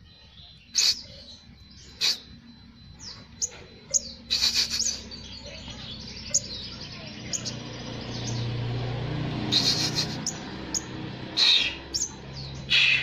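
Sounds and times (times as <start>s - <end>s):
bird chirping: 0.0s - 13.0s
bird trill: 0.0s - 13.0s.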